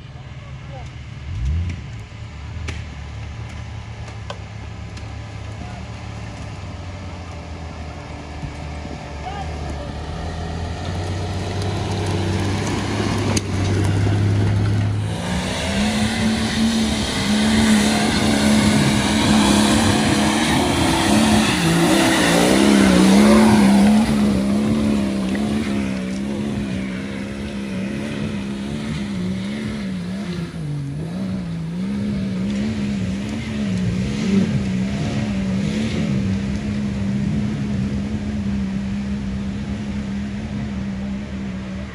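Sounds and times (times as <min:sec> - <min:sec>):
diesel engine revving: 0:00.8 - 0:41.9.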